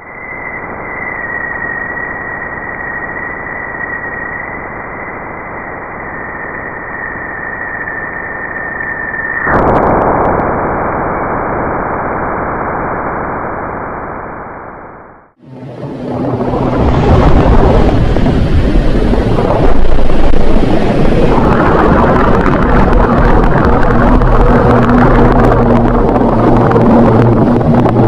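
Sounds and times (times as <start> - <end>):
low hum: 0.0 - 28.0
noisy rumble: 4.6 - 28.0.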